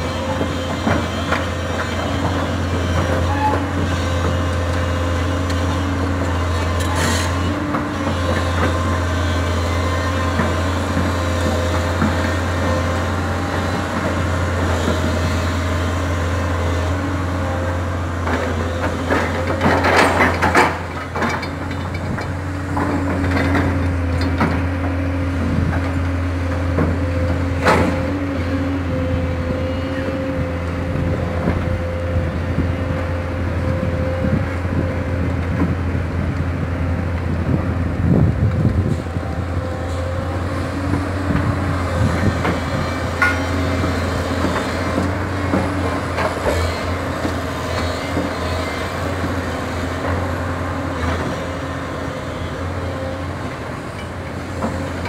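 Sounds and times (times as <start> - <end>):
excavator diesel engine running: 0.0 - 55.0
pitched engine whine: 0.0 - 55.0.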